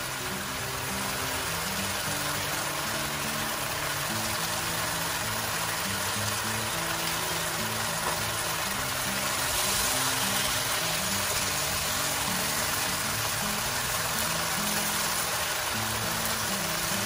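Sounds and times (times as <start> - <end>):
mushrooms sizzling in a wok: 0.0 - 17.0
slow background music: 0.0 - 17.0.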